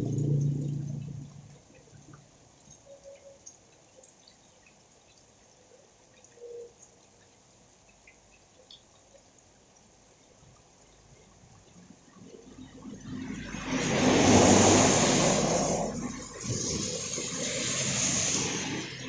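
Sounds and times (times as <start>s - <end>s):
rainwater dripping: 0.0s - 19.0s.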